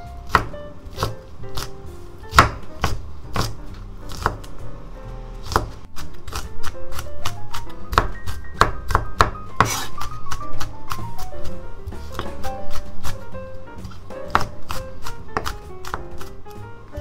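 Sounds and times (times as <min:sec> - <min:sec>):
knife chopping on wooden board: 0:00.2 - 0:04.6, 0:05.4 - 0:16.4.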